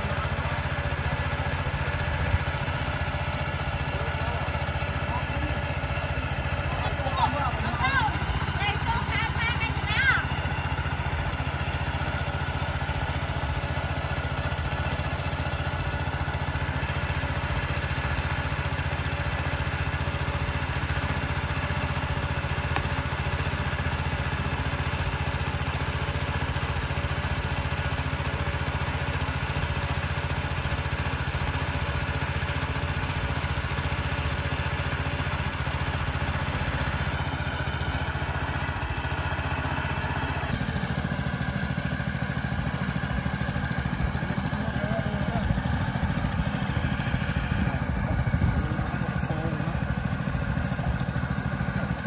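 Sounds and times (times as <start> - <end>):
small engine driving water pump: 0.0 - 52.0.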